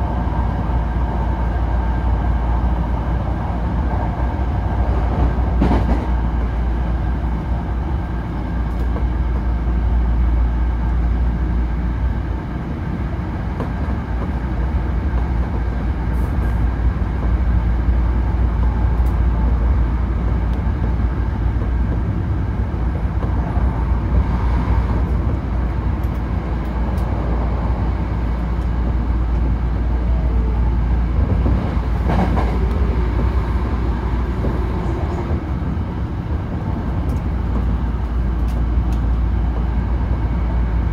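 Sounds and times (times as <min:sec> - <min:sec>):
train rumble from inside: 0:00.0 - 0:40.9.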